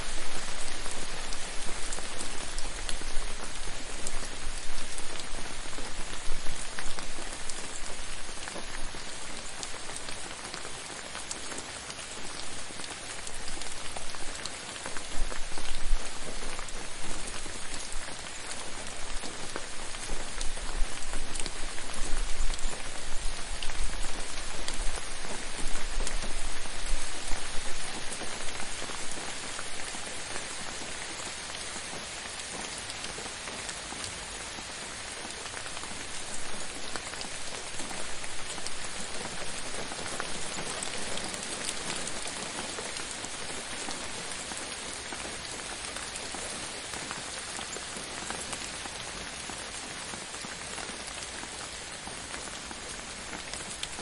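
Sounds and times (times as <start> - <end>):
rain on a hard surface: 0.0 - 54.0.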